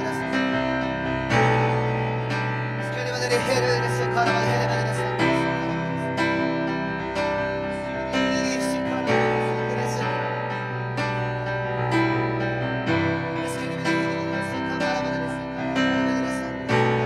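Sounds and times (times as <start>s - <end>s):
slow keyboard chords: 0.0s - 17.0s.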